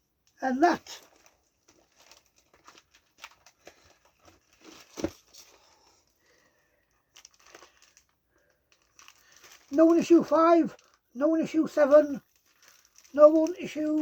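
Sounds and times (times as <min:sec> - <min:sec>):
packaging rustling and crinkling: 0:00.2 - 0:14.0.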